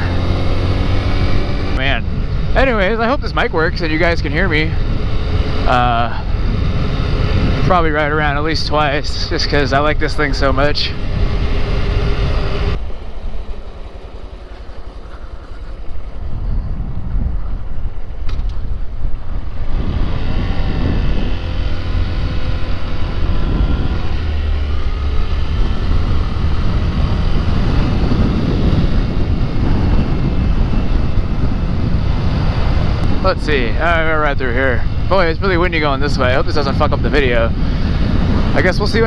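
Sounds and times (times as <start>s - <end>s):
motorcycle engine: 0.0s - 39.0s
wind rushing over microphone: 0.0s - 39.0s.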